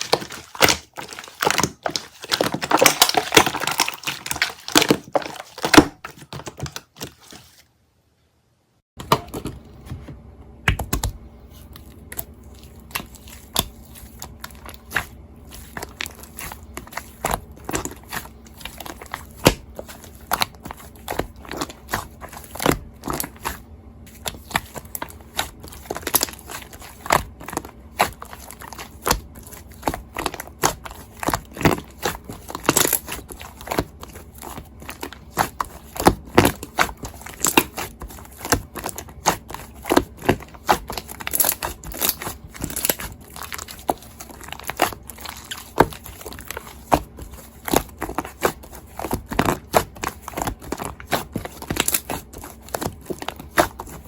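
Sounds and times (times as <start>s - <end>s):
crinkling and crackling: 0.0s - 7.7s, 10.8s - 54.0s.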